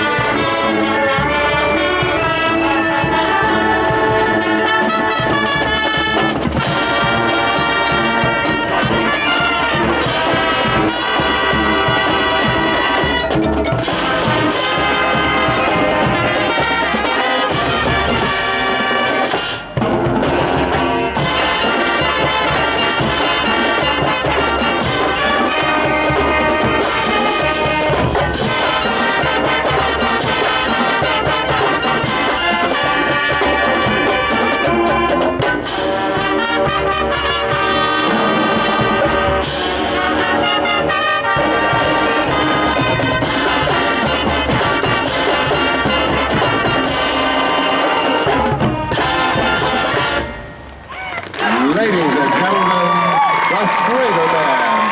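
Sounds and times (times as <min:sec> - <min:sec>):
brass chords: 0:00.0 - 0:52.7
marching band playing: 0:00.0 - 0:54.9.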